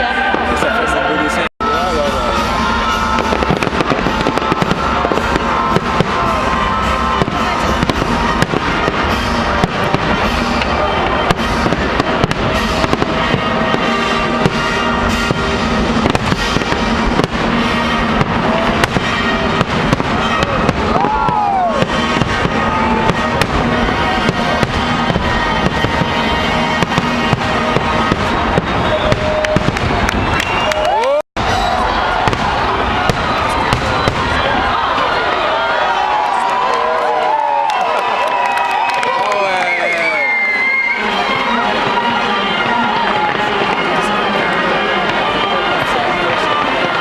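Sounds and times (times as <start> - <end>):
music: 0.0 - 34.4, 39.7 - 47.0
crowd voices: 0.0 - 47.0
fireworks bangs and crackles: 1.6 - 47.0.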